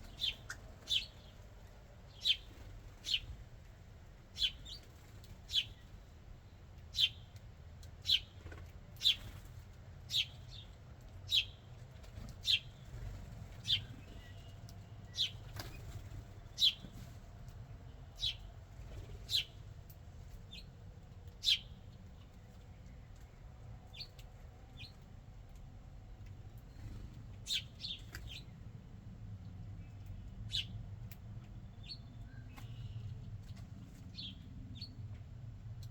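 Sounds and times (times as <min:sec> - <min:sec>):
songbird chirping: 0:00.0 - 0:25.6, 0:26.2 - 0:28.6, 0:29.6 - 0:35.1.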